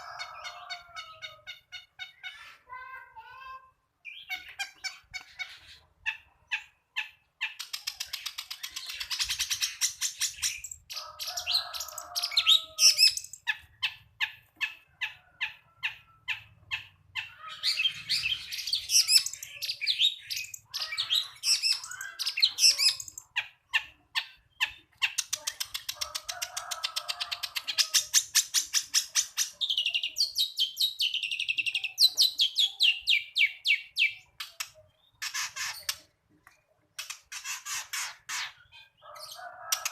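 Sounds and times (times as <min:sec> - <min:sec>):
bird singing with chattering trills: 0:04.0 - 0:39.9.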